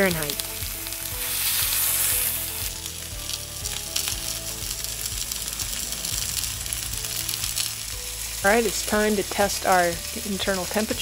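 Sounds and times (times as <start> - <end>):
chicken sizzling in grill pan: 0.0 - 11.0.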